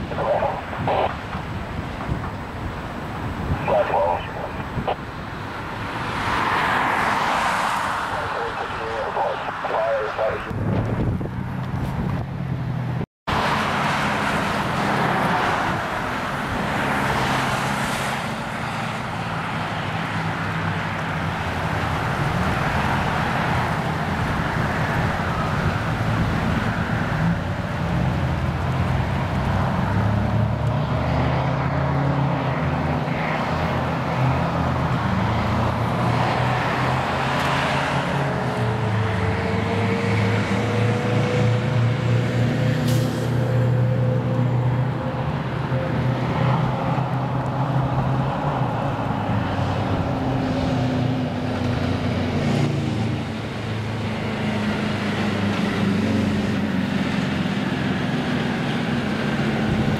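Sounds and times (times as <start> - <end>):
heavy diesel engines droning: 0.0 - 59.9
road traffic: 0.0 - 59.9.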